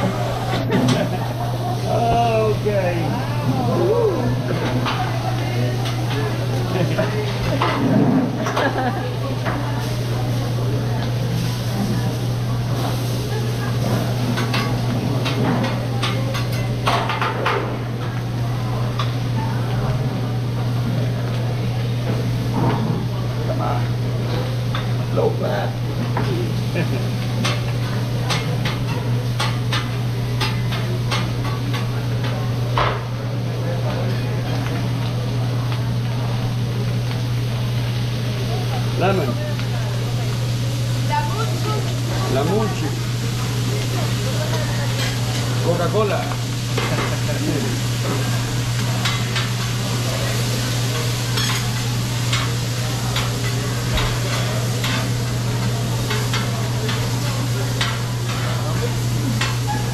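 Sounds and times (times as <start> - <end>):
food sizzling on a griddle: 0.0 - 59.9.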